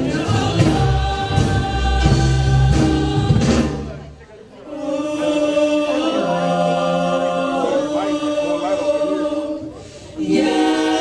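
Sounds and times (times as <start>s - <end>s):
mixed vocal ensemble singing: 0.0s - 11.0s.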